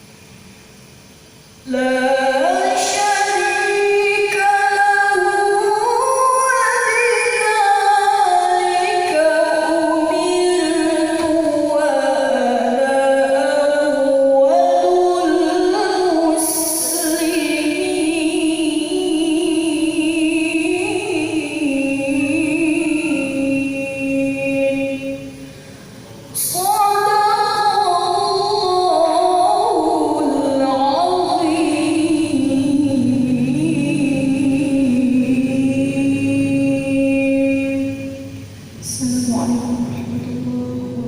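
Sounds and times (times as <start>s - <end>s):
woman reciting melodically: 1.3s - 41.0s.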